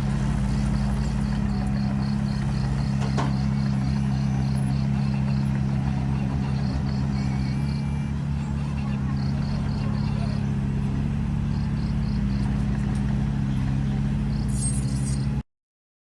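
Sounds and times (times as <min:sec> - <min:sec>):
bulldozer diesel engine running: 0:00.0 - 0:15.4.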